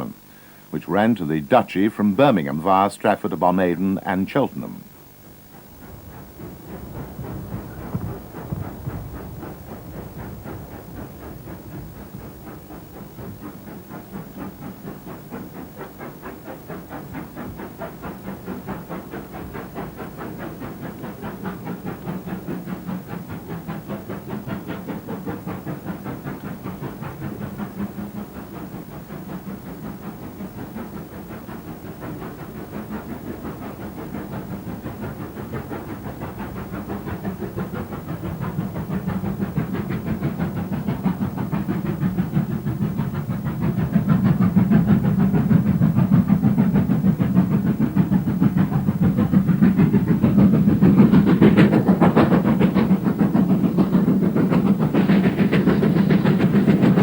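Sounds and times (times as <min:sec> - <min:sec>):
steam hiss: 0:00.0 - 0:57.0
steam locomotive exhaust beats: 0:00.0 - 0:57.0.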